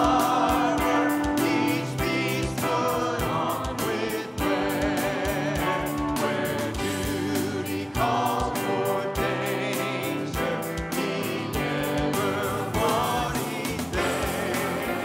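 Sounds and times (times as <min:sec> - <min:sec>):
drums with steady beat: 0:00.0 - 0:15.0
electric guitar: 0:00.0 - 0:15.0
keyboard: 0:00.0 - 0:15.0
voices singing: 0:00.0 - 0:15.0.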